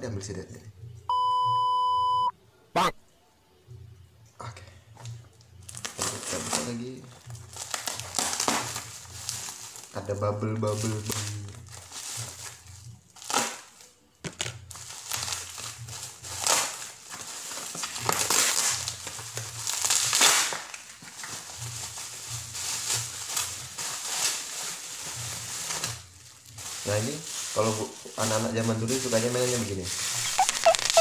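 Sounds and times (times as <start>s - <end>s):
bubble wrap crinkling: 5.0s - 31.0s.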